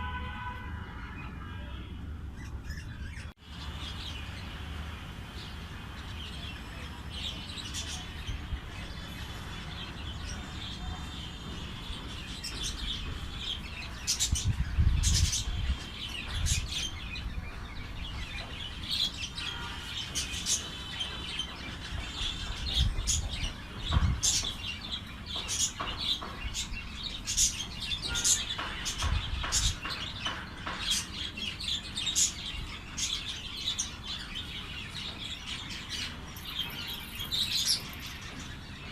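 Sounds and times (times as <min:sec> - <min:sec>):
small birds chirping: 0:01.2 - 0:38.9.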